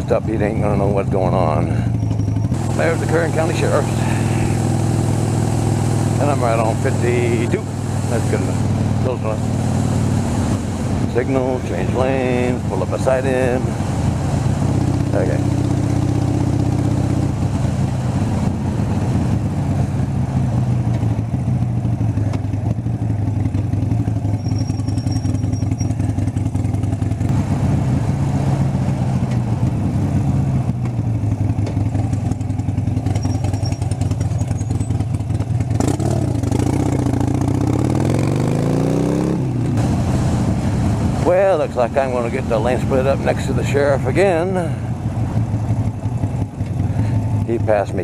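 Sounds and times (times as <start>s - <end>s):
motorcycle engine cruising: 0.0s - 48.0s.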